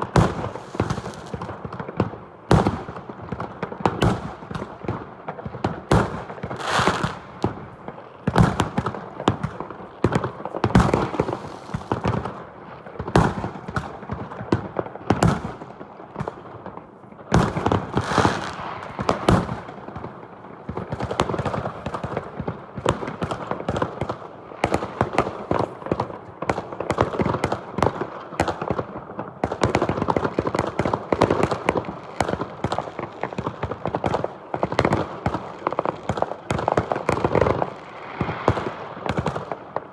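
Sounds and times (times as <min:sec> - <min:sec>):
fireworks bangs and cracks: 0:00.0 - 0:39.9.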